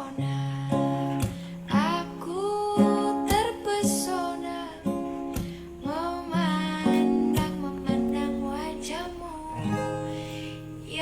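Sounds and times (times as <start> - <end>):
acoustic guitar strumming: 0.0 - 11.0
person singing slow song: 0.0 - 11.0.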